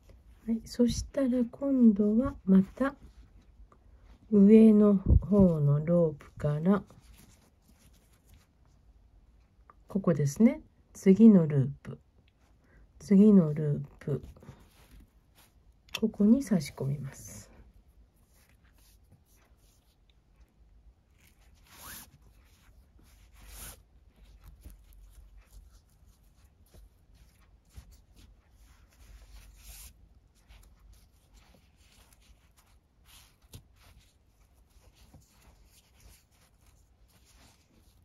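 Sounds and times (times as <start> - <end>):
cord swishing through knots: 0.0 - 9.0, 13.4 - 38.0.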